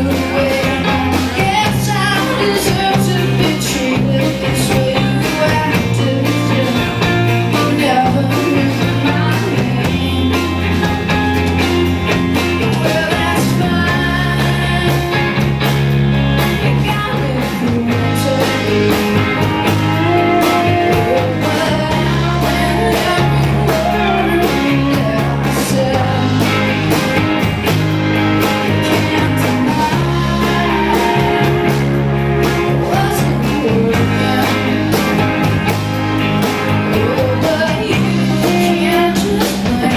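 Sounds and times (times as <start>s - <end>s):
person singing: 0.0s - 11.5s, 12.4s - 15.6s, 16.6s - 27.2s, 28.4s - 35.7s, 36.6s - 39.9s
bass guitar: 0.0s - 39.9s
drums: 0.0s - 39.9s
electric guitar: 0.0s - 39.9s.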